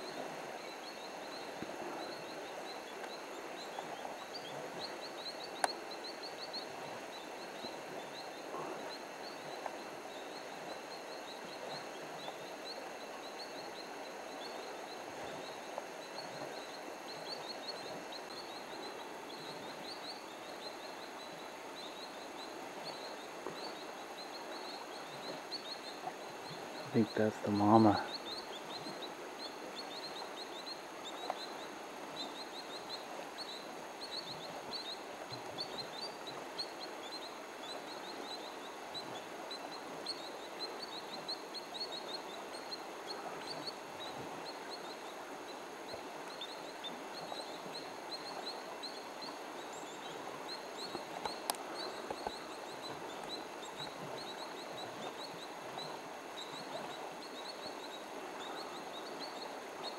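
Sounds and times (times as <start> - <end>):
outdoor background hiss: 0.0 - 59.9
small birds chirping: 0.0 - 59.9.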